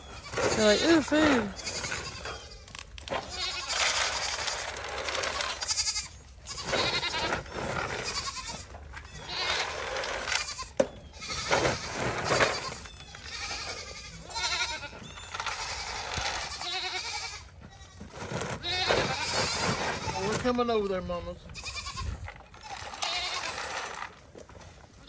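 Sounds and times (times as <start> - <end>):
goats bleating: 0.0 - 20.4, 21.5 - 24.2.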